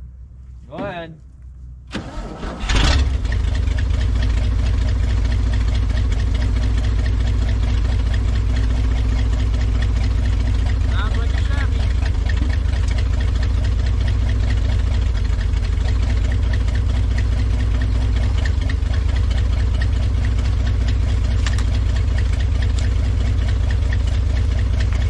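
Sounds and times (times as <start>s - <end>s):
truck engine running steadily: 0.0s - 25.0s.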